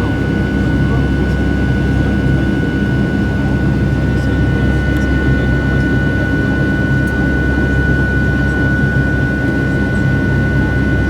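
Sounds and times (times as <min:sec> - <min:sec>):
aircraft engine rumble: 0:00.0 - 0:11.0.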